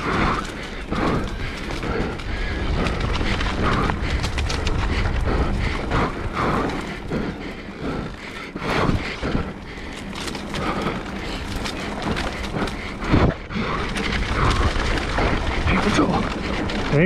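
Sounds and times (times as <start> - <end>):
bike knocking and rattling: 0.0 - 17.0
bike tyres on dirt and leaves: 0.0 - 17.0.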